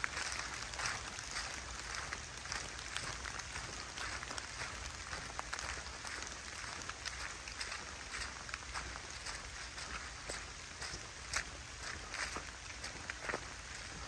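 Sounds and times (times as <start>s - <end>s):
footsteps on wet leaves: 0.0s - 14.0s
rain pattering on leaves: 0.0s - 14.0s.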